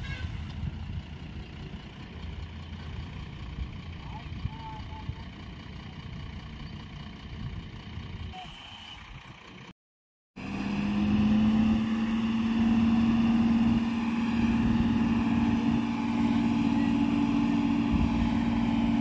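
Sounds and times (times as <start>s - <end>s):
diesel truck engine running: 0.0s - 9.8s, 10.4s - 19.0s.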